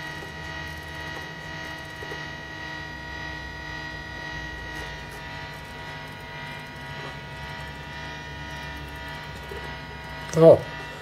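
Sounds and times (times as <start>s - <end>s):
electronic noise drone: 0.0s - 11.0s.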